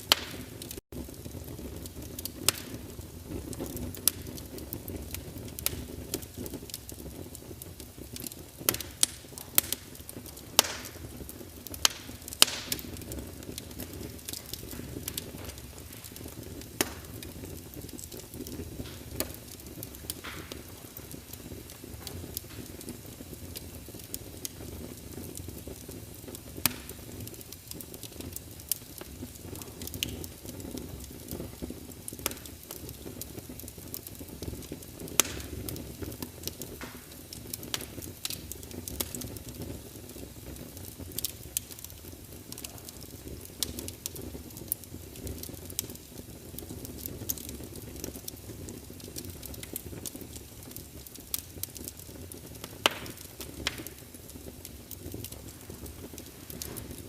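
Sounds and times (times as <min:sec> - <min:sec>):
fire rushing: 0:00.0 - 0:57.0
logs crackling and popping: 0:00.0 - 0:57.0.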